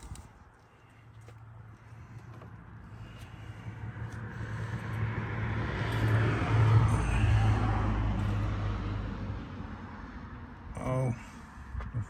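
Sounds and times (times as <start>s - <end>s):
vehicle passing by: 1.8s - 11.9s.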